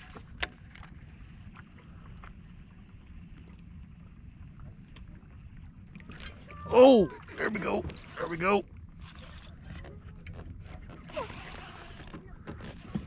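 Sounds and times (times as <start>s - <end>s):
water lapping around kayak: 0.0s - 13.0s.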